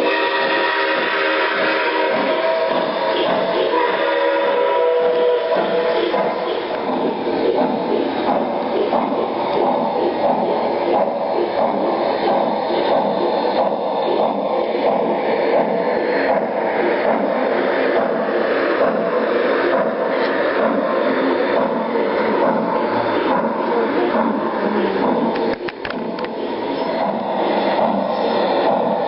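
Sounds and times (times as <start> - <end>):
model train motor humming: 0.0 - 29.0
faint ticking from track: 0.9 - 3.8, 4.5 - 29.0.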